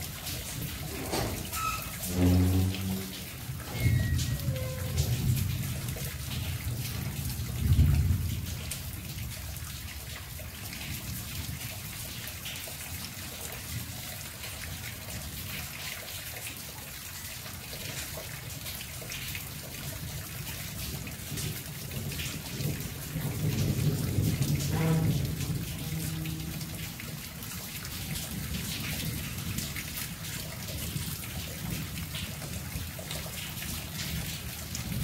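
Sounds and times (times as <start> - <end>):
rain falling on foliage: 0.0 - 35.0.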